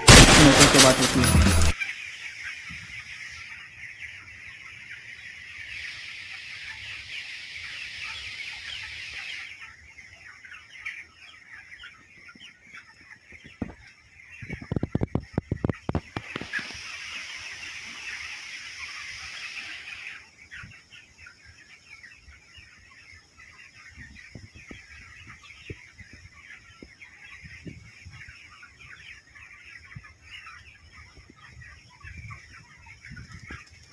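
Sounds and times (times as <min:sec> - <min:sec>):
chickens peeping and clucking: 0:00.0 - 0:33.9.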